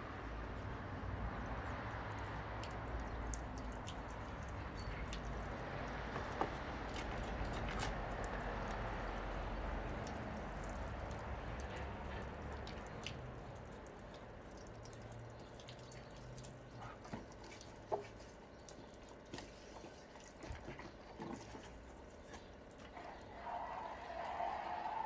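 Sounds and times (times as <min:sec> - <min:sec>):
water dripping and pattering: 0:00.0 - 0:25.0.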